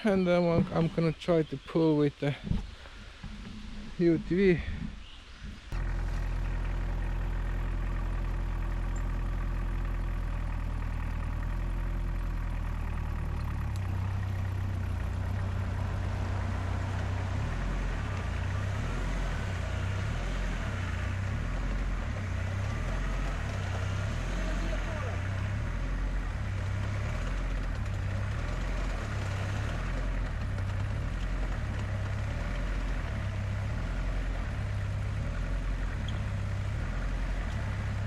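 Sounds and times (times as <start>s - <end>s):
utility vehicle engine under load: 0.0s - 38.0s.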